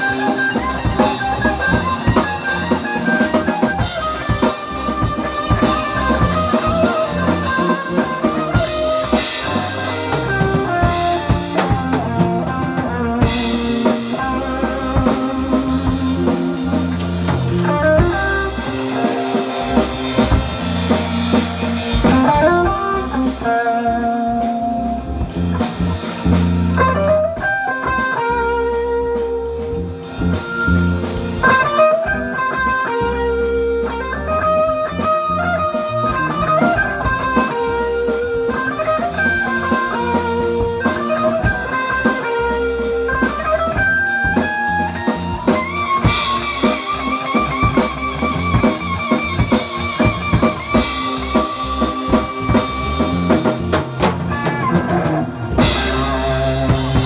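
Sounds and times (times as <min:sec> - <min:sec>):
electric guitar melody: 0:00.0 - 0:57.0
rock band playing: 0:00.0 - 0:57.0.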